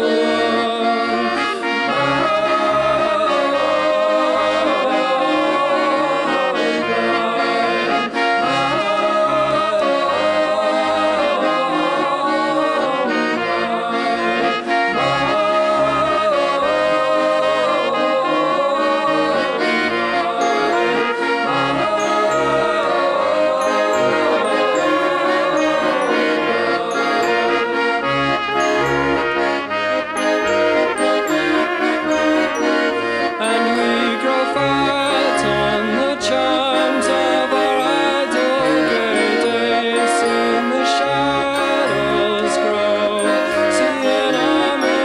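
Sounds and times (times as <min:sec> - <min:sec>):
background music: 0:00.0 - 0:45.0.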